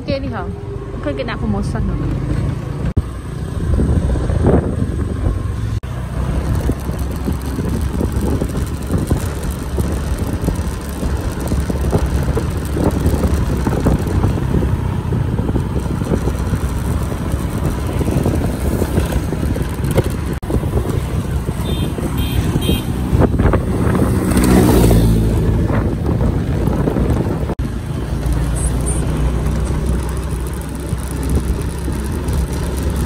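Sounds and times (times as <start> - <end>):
low rumble of motor vehicles: 0.0 - 33.0.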